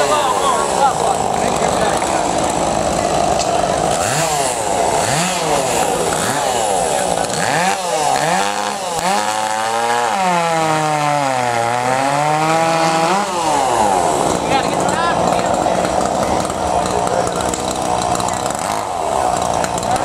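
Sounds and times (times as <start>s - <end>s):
chainsaw cutting a log: 0.0s - 20.0s.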